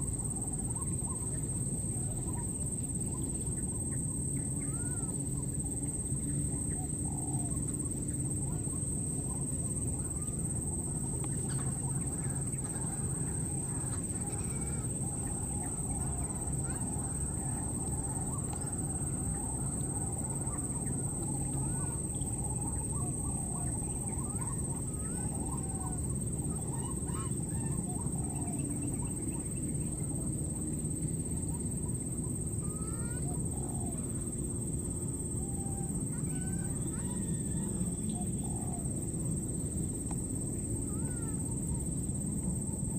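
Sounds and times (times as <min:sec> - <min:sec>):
high insect drone: 0:00.0 - 0:42.9.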